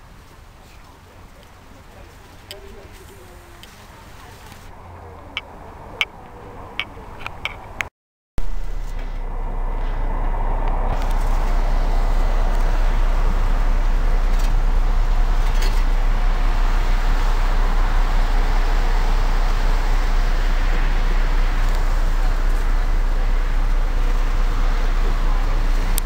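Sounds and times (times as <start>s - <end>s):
bus engine rumbling: 0.0s - 26.0s.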